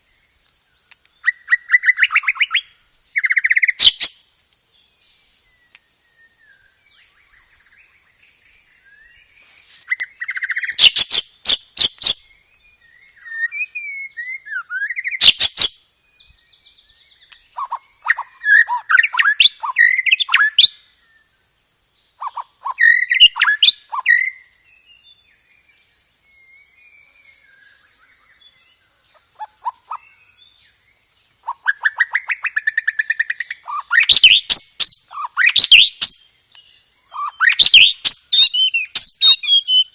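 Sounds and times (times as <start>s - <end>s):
bird singing trills: 0.0s - 39.9s.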